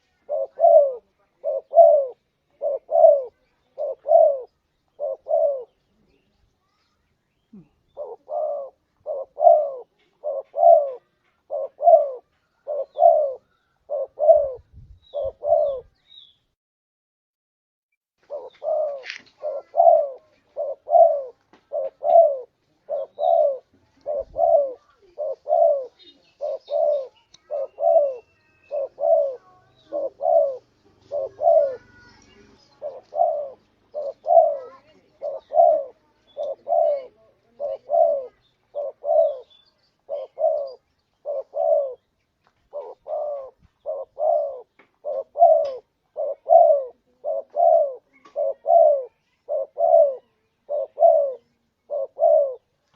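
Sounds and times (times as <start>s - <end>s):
dove cooing: 0.0s - 6.2s, 7.5s - 16.0s, 18.2s - 52.7s.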